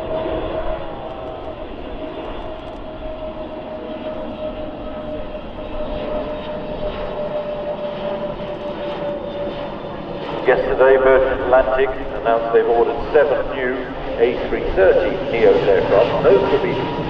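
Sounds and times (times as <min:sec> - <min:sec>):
jet engine rumble: 0:00.0 - 0:17.0
jet engine whine: 0:00.0 - 0:17.0.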